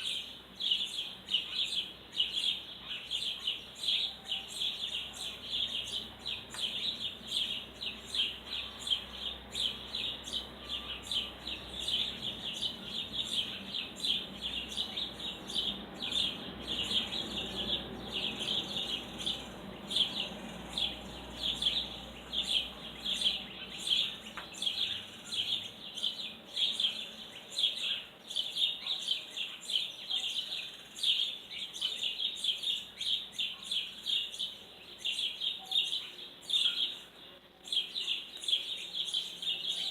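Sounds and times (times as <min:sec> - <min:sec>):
small songbird chirping: 0:00.0 - 0:39.9.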